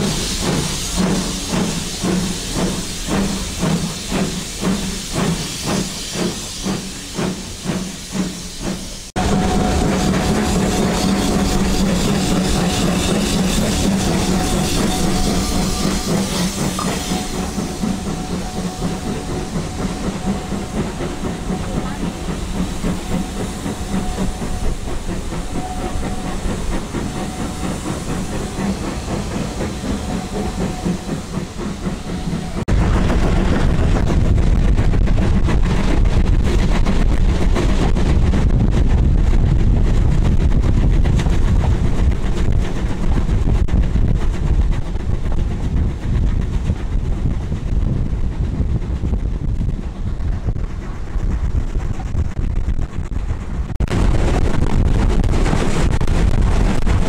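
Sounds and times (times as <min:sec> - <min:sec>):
steam hissing: 0:00.0 - 0:46.1
train running on rails: 0:00.0 - 0:57.0.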